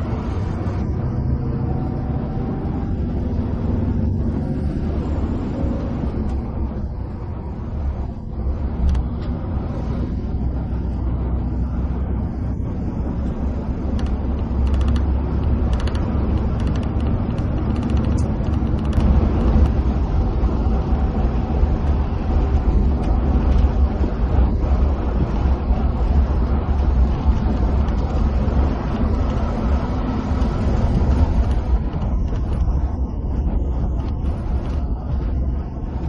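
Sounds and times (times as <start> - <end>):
bus engine and tyre rumble: 0.0 - 36.0.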